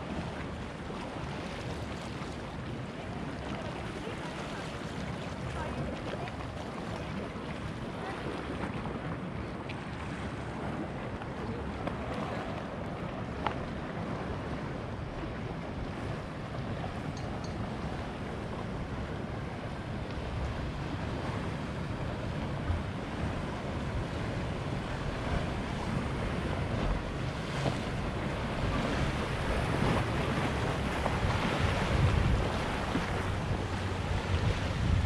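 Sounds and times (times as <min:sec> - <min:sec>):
sea waves: 0:00.0 - 0:35.0
wind buffeting microphone: 0:05.6 - 0:35.0.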